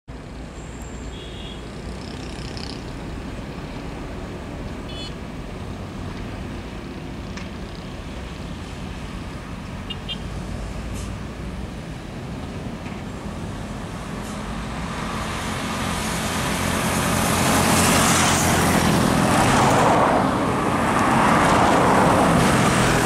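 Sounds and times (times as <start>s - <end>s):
motorbikes passing: 1.2s - 10.8s, 13.4s - 23.0s
truck passing: 1.6s - 23.0s.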